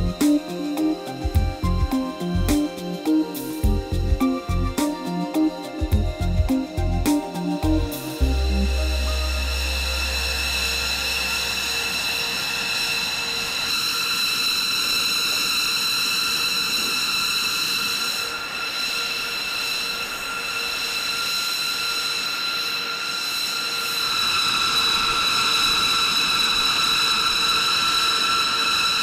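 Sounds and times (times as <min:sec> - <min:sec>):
aircraft turbine whine: 0:00.0 - 0:29.0.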